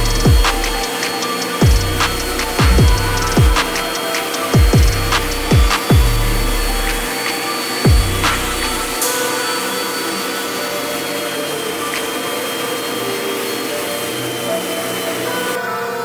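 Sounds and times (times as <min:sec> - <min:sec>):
machine whir with hiss: 0:00.0 - 0:16.0.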